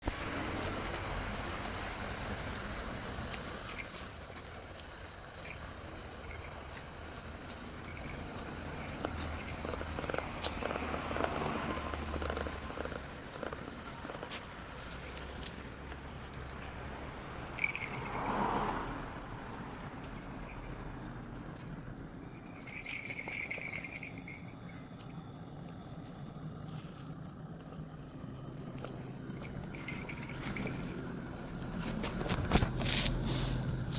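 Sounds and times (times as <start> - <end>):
cicada buzzing: 0.0 - 33.9.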